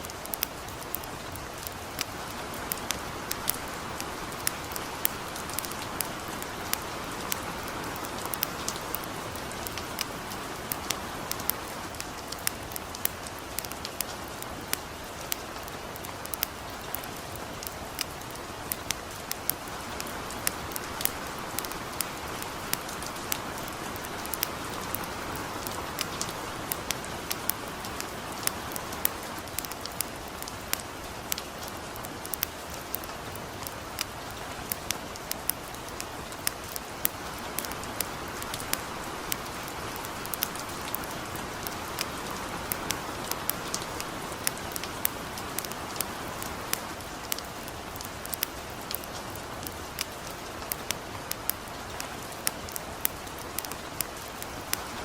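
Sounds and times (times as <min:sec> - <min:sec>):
campfire crackling and popping: 0:00.0 - 0:55.0
gentle rain: 0:00.0 - 0:55.0.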